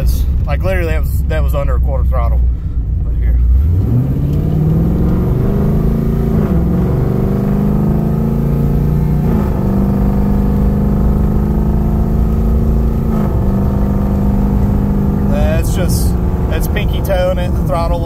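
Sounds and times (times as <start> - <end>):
car engine upshifting: 2.4 - 18.0.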